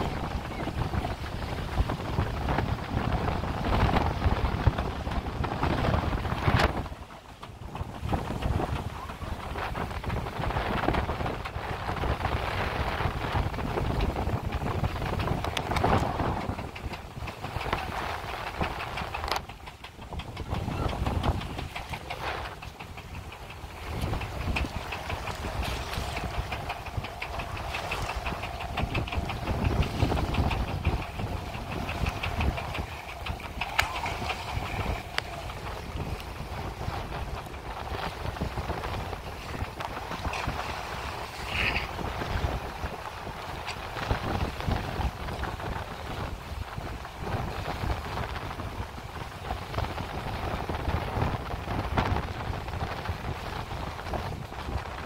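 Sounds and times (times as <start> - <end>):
boat engine ticking: 0.0 - 55.0
wind buffeting microphone: 0.0 - 55.0.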